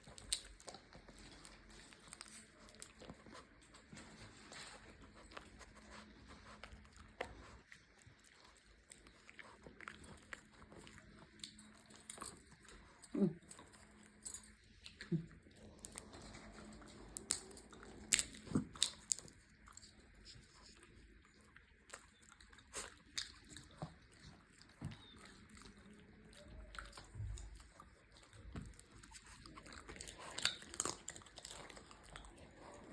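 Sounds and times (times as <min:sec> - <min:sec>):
puppy crunching peanuts: 0:00.0 - 0:32.9.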